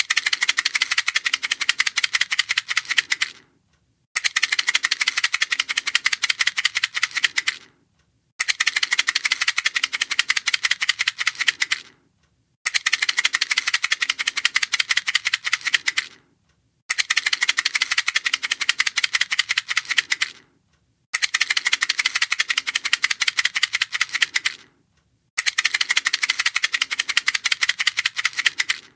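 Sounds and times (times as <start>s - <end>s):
matchbox rattling: 0.0s - 3.4s, 4.2s - 7.7s, 8.4s - 11.9s, 12.7s - 16.2s, 16.9s - 20.4s, 21.2s - 24.7s, 25.4s - 28.9s.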